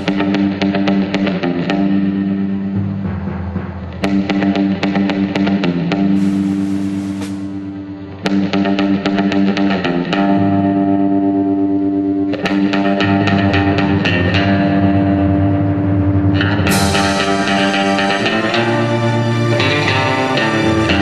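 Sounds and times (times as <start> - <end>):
plucked guitar over held bass: 3.9 - 21.0.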